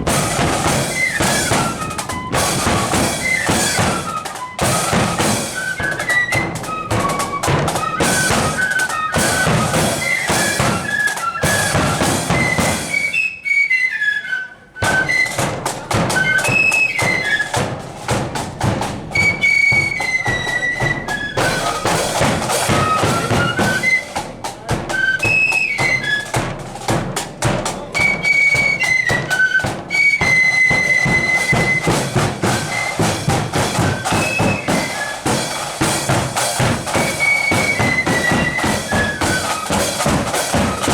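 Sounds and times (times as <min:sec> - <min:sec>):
snare and bass drums: 0:00.0 - 0:13.2, 0:14.8 - 0:40.9
flute band playing: 0:00.0 - 0:40.9.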